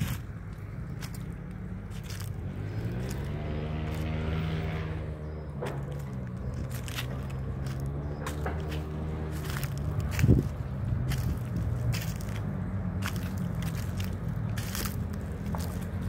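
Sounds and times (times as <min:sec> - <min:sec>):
footsteps on dry leaves: 0:00.0 - 0:16.0
vehicle engine passing: 0:00.0 - 0:16.0.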